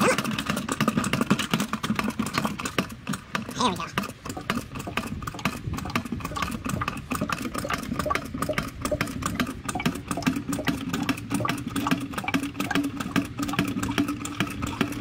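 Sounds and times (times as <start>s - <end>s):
motor running with ticking: 0.0s - 15.0s.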